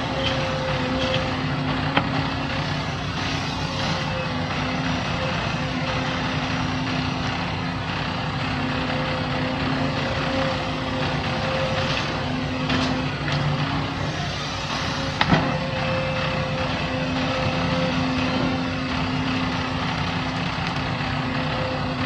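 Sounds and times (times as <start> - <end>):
diesel machinery engine running: 0.0 - 22.0.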